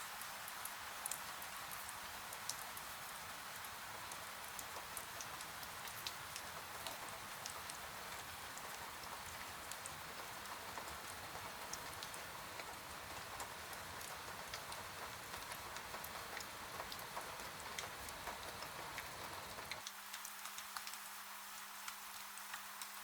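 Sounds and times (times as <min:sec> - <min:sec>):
rain hiss: 0:00.0 - 0:23.0.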